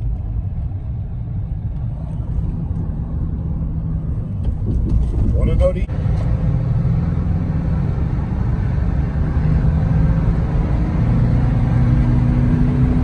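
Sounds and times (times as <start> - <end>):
car tyre and engine drone: 0.0 - 13.0.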